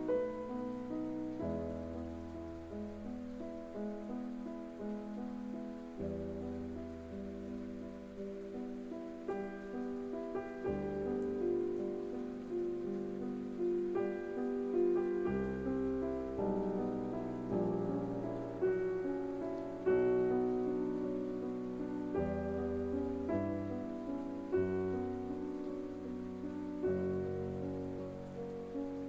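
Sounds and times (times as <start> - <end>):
slow soft piano music: 0.0 - 29.0.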